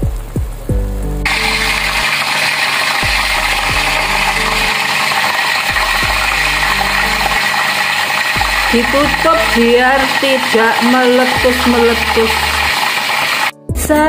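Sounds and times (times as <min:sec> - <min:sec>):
chicken sizzling in hot oil: 0:01.3 - 0:13.5.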